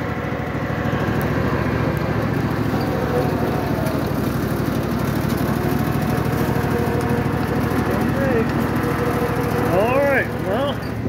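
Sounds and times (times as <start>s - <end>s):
small tractor engine running: 0.0s - 11.0s.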